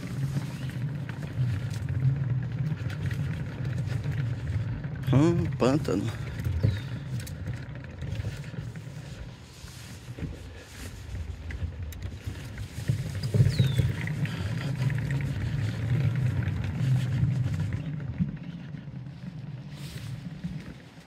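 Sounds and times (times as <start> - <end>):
tyre rumbling over wooden planks: 0.0 - 21.0.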